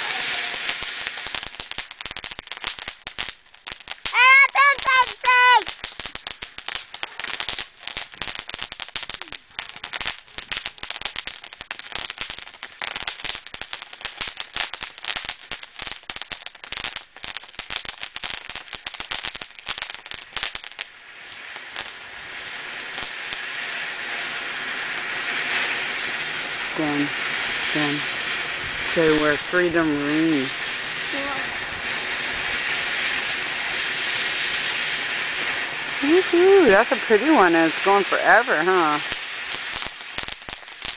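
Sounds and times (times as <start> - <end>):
fireworks crackling: 0.0 - 40.9
steady hiss: 0.0 - 40.9.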